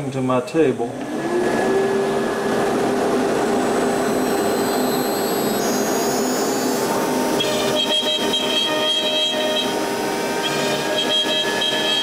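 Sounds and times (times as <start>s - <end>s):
higher shifting whines: 0.8s - 12.0s
router spindle whine: 0.9s - 12.0s.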